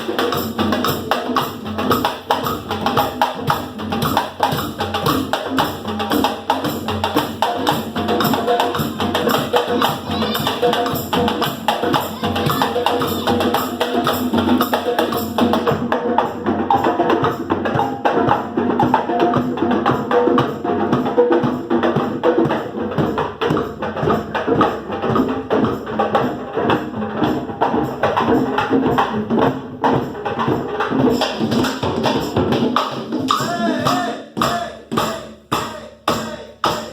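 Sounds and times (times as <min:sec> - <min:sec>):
percussion ensemble drumming: 0:00.0 - 0:36.9.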